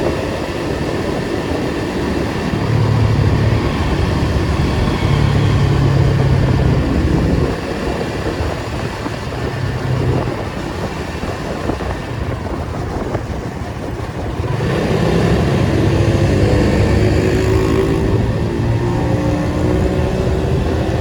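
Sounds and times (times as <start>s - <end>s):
car engine running: 0.0s - 17.4s
road noise: 0.0s - 21.0s.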